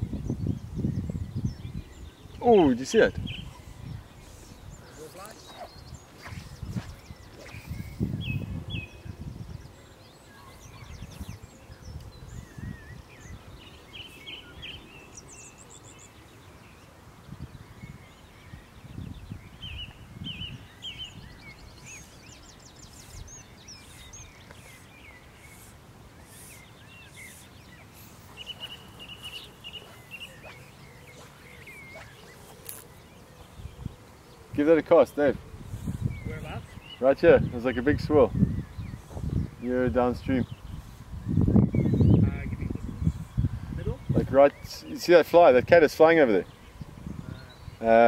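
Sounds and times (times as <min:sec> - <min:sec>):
birds chirping and trilling: 0:00.0 - 0:48.0
faint outdoor hiss: 0:00.0 - 0:48.0.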